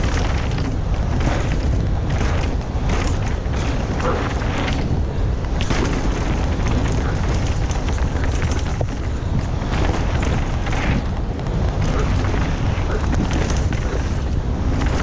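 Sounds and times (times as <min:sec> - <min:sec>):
bike knocks and rattles: 0:00.0 - 0:15.0
tyres rumbling on gravel trail: 0:00.0 - 0:15.0
wind on microphone: 0:00.0 - 0:15.0.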